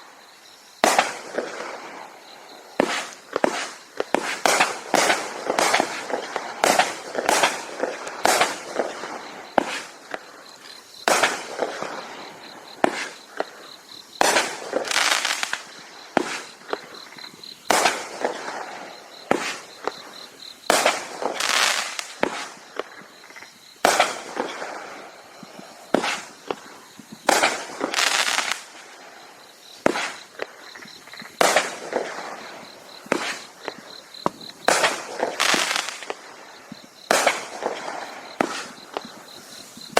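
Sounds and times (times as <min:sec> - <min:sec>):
fireworks bangs: 0:00.8 - 0:39.9
fireworks crackling: 0:00.8 - 0:39.9.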